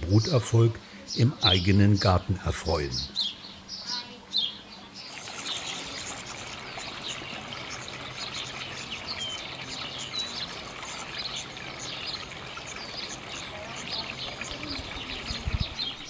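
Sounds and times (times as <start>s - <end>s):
nestlings begging chatter: 0.0s - 16.0s.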